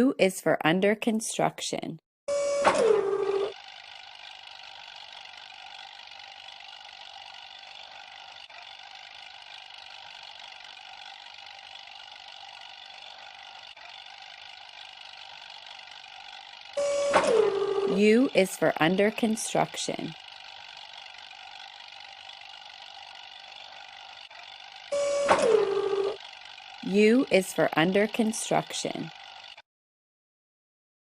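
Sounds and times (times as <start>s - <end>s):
steady machine drone: 2.3s - 29.6s.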